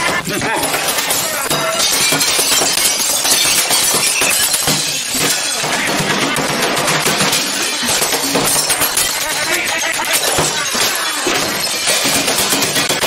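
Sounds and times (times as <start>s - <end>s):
plates and glass smashing: 0.0s - 13.0s.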